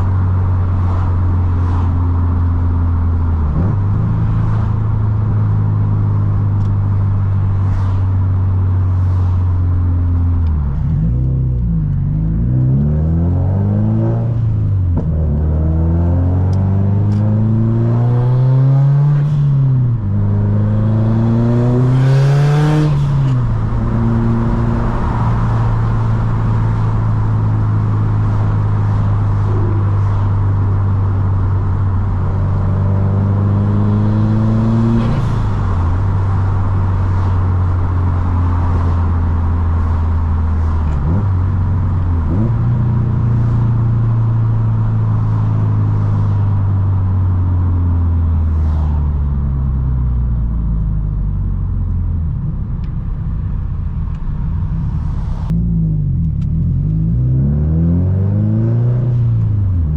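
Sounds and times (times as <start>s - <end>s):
car engine revving: 0.0s - 50.5s, 51.3s - 59.9s.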